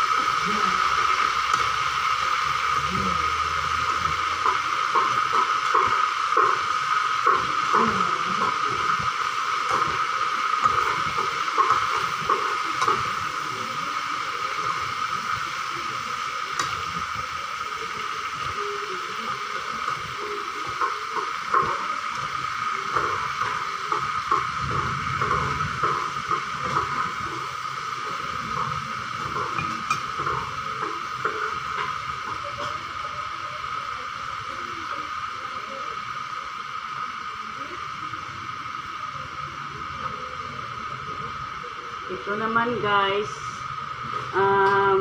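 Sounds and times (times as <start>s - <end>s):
chicken feet sizzling in a wok: 0.0s - 45.0s.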